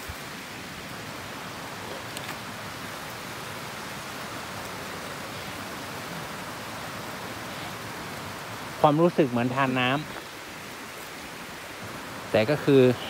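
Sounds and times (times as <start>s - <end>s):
stream trickling over rocks: 0.0s - 13.0s.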